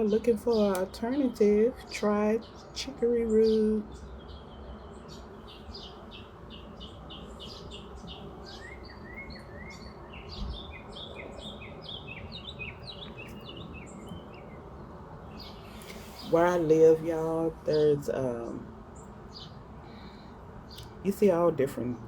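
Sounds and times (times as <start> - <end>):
songbirds chirping and singing: 0.0 - 22.0
steady background hiss: 0.0 - 22.0.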